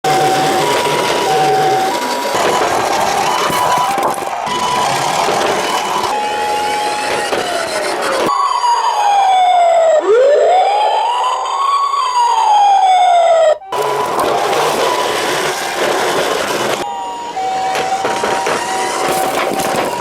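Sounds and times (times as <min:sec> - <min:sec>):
emergency sirens wailing: 0:00.0 - 0:20.0.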